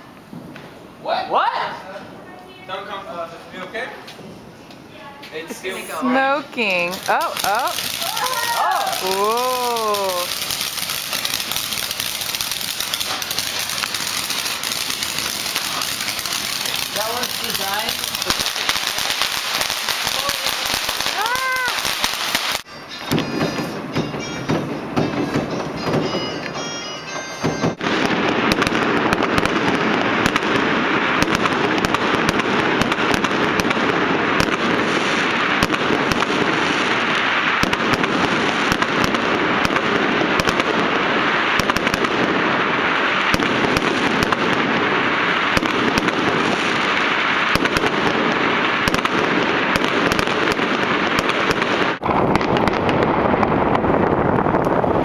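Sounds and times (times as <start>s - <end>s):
fireworks and firecrackers popping: 0.0s - 0.8s, 4.0s - 55.0s.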